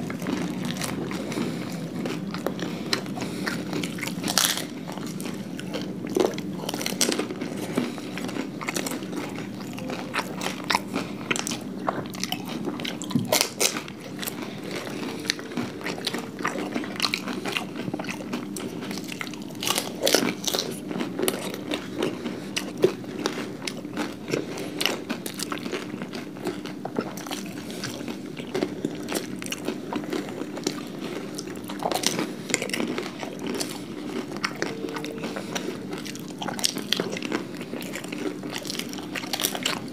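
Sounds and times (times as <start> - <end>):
chewing: 0.0 - 39.9
crunching of crisp fried food: 0.0 - 39.9.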